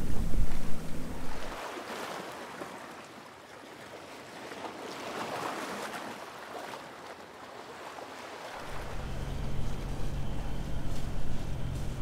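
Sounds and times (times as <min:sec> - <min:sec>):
water washing past a hull: 0:00.0 - 0:12.0.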